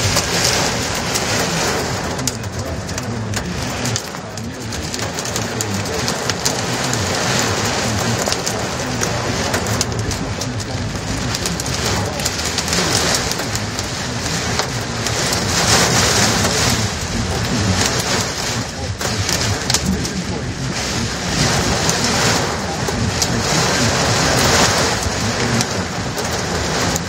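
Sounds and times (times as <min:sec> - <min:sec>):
heavy rain on car roof: 0:00.0 - 0:27.0
low rumble: 0:00.0 - 0:27.0.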